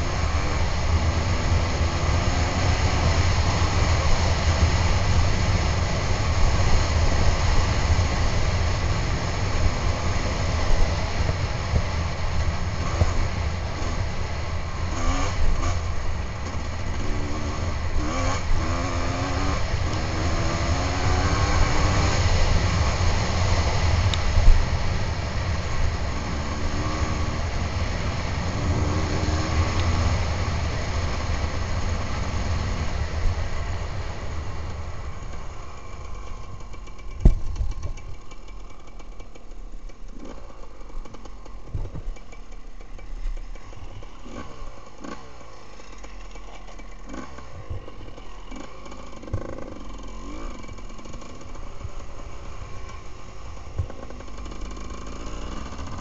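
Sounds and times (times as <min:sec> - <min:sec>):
dirt bike engine: 0:00.0 - 0:56.0.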